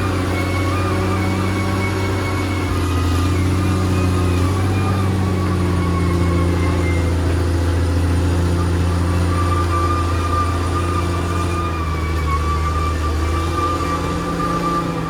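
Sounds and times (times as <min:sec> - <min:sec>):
bulldozer diesel engine running: 0:00.0 - 0:15.0
thin whine: 0:00.0 - 0:15.0.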